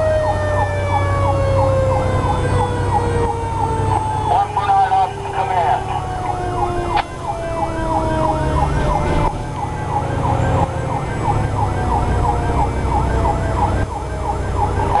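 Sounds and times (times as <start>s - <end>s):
fire truck engine rumble: 0.0s - 15.0s
siren yelping: 0.0s - 15.0s
steady siren tone: 0.0s - 15.0s.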